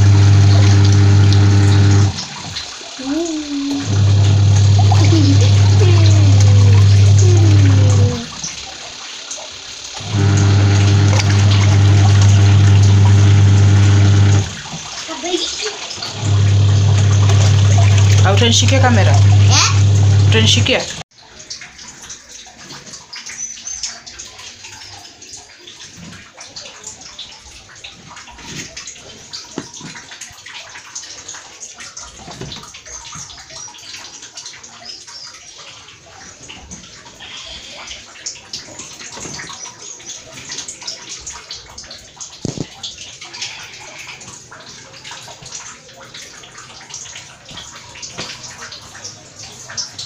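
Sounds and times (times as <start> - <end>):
water splashing in washing machine tub: 0.0 - 50.0.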